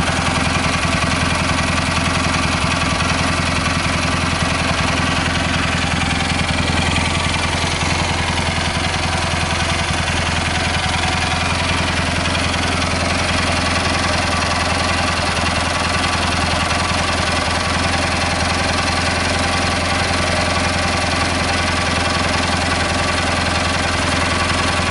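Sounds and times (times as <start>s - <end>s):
garden tractor engine running: 0.0s - 24.9s.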